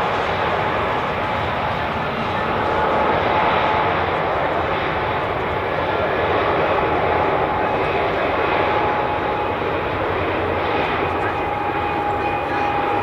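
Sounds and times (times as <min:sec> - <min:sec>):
airliner engine rush: 0:00.0 - 0:13.0.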